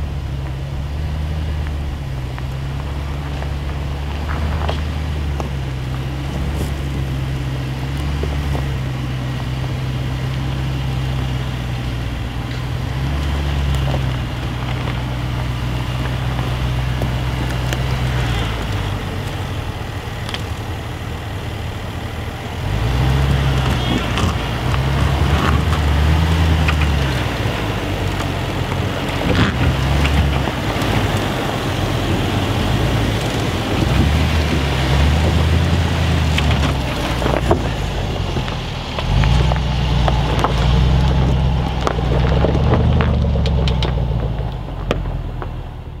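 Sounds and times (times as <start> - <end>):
car engine revving: 0.0 - 46.0
tyres crunching over gravel: 0.0 - 46.0.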